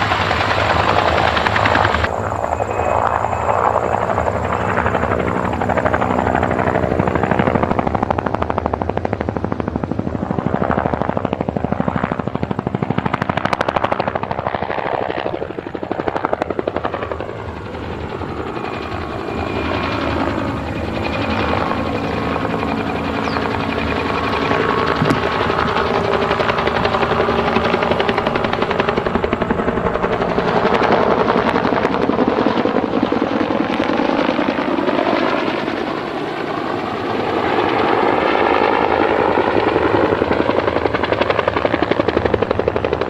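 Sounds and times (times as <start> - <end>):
helicopter rotor blades beating: 0.0 - 43.0.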